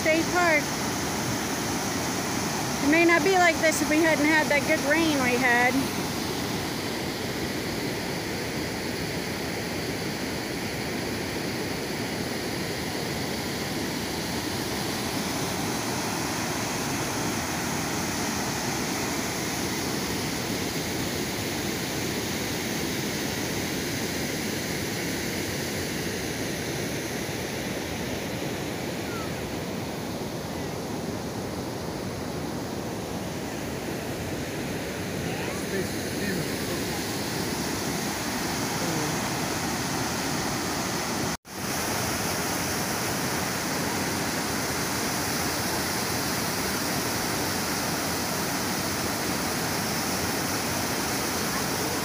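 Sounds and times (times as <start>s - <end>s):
waterfall and river rapids rushing: 0.0s - 52.0s.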